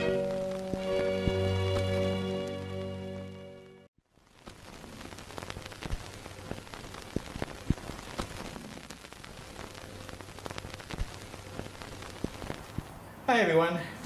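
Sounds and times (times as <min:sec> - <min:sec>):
steady hiss: 0:00.0 - 0:03.2, 0:04.0 - 0:14.0
record crackle clicks and pops: 0:00.0 - 0:13.2.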